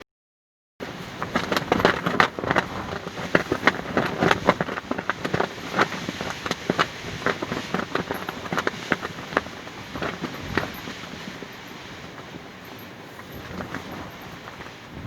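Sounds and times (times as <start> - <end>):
fabric flapping in wind: 0.8 - 15.0.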